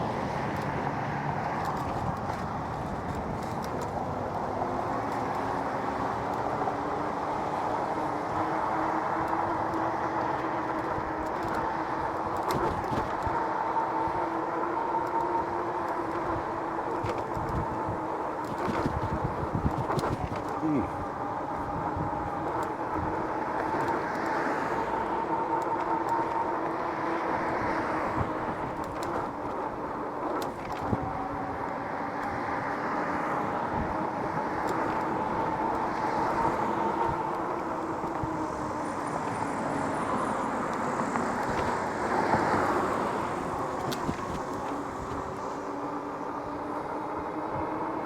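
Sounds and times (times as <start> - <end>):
electric bike motor whining: 0.0 - 48.0
tyre noise: 0.0 - 48.0
wind noise: 0.0 - 48.0.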